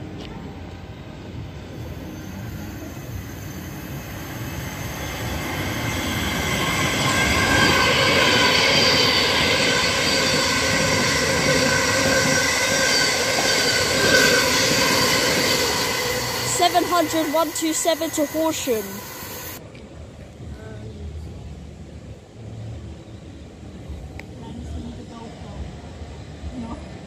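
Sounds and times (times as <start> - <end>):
electric train passing: 0.0 - 27.0.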